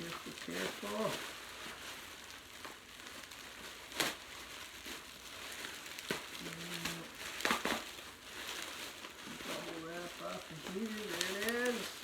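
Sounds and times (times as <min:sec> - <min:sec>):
bubble wrap crinkling and rustling: 0:00.0 - 0:12.0
sharp crackles: 0:00.0 - 0:12.0.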